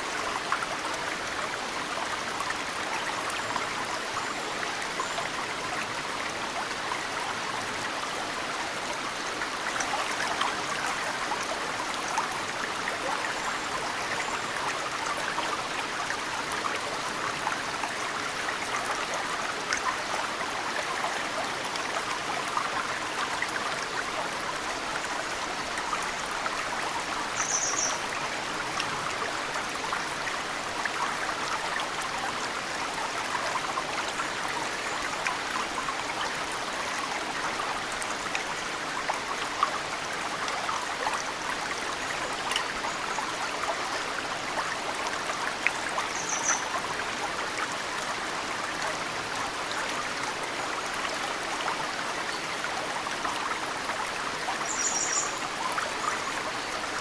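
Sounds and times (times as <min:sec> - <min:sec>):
mountain stream flowing: 0:00.0 - 0:57.0.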